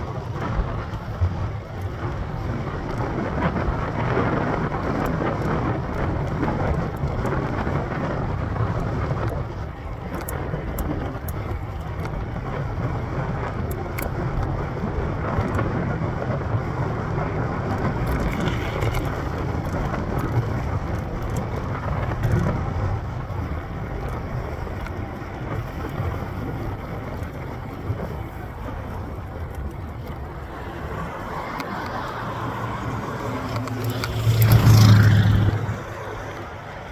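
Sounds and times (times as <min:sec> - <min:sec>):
bicycle tyre road rumble: 0:00.0 - 0:36.9
motor traffic: 0:00.0 - 0:36.9
wind: 0:00.0 - 0:36.9.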